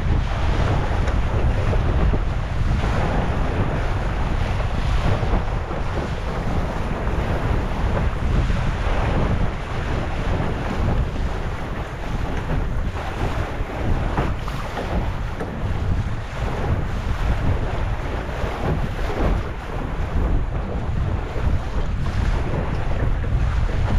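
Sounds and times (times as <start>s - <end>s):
water splashing along hull: 0.0s - 23.9s
wind buffeting microphone: 0.0s - 23.9s.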